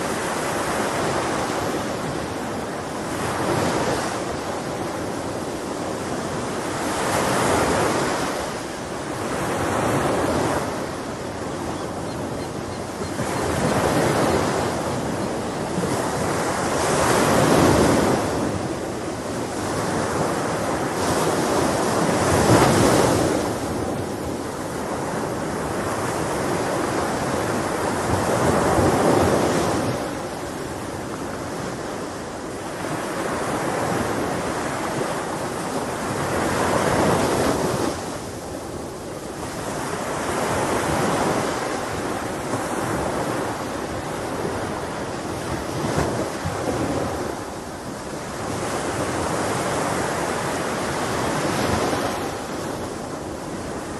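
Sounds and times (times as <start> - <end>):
sea waves breaking on shore: 0.0 - 53.9
wind: 0.0 - 53.9.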